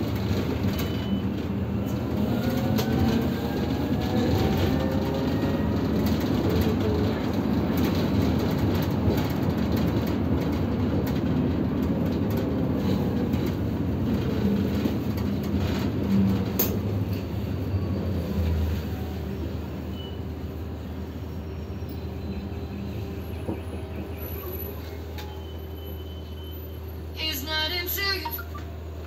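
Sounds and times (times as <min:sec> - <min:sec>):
bus road rumble: 0:00.0 - 0:29.0.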